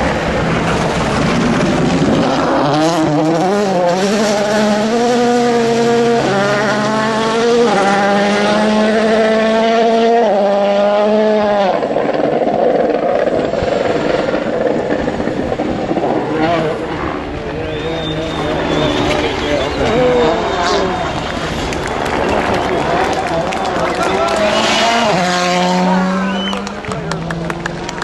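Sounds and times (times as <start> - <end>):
rushing noise: 0.0 - 9.4, 11.4 - 26.5
rally car engine at full throttle: 0.0 - 28.0.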